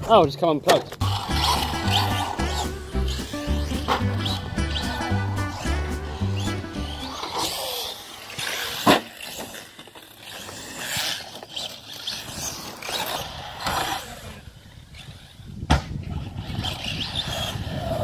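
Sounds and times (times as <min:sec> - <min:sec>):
rc car motor whine: 0:01.0 - 0:18.0.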